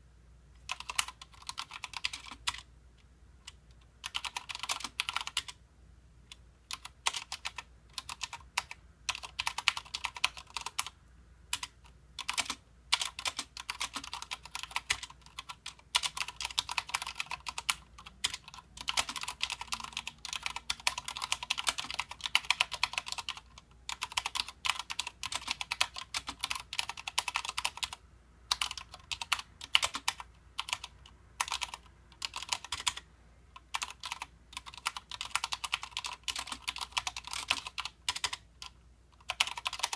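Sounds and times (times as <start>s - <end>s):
mechanical keyboard typing: 0.6s - 2.7s, 3.4s - 5.6s, 6.3s - 39.9s.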